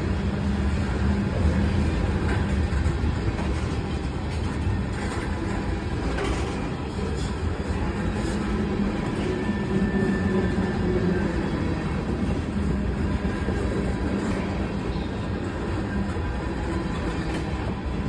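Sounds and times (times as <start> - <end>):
steel wheels rumbling on rail: 0.0 - 18.0.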